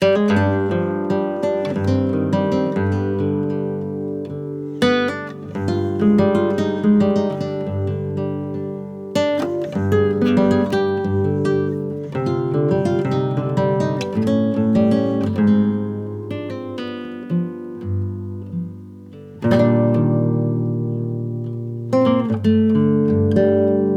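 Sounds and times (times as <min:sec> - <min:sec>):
acoustic guitar music: 0:00.0 - 0:23.9.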